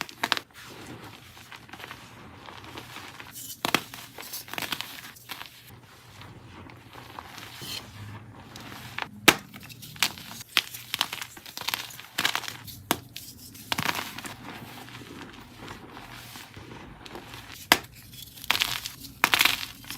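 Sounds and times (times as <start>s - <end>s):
chalk crunching and cracking: 0.0s - 19.9s.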